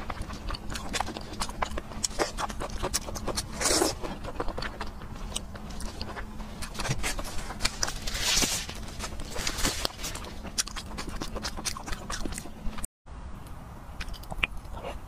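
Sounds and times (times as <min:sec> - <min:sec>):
wet chewing with mouth clicks: 0:00.0 - 0:08.0, 0:09.0 - 0:12.9, 0:14.0 - 0:15.0.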